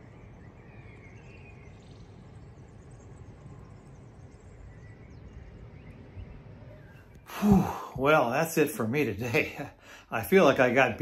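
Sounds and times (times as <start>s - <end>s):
faint bird chirps: 0.0s - 11.0s
low steady rumble: 0.0s - 11.0s.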